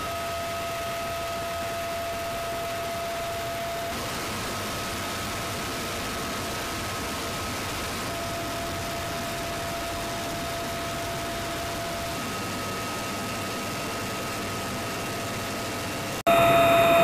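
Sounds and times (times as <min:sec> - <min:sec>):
helicopter rotor roar: 0:00.0 - 0:17.0
high whine: 0:00.0 - 0:17.0.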